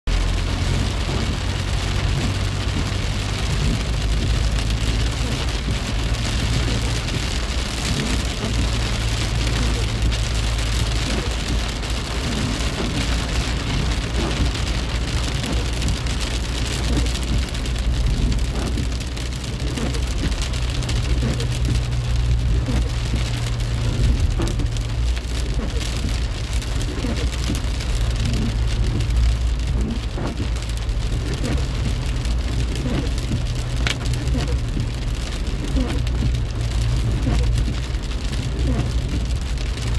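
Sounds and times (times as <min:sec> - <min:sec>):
car road hum: 0:00.0 - 0:39.9
heavy rain on car windshield: 0:00.0 - 0:39.9.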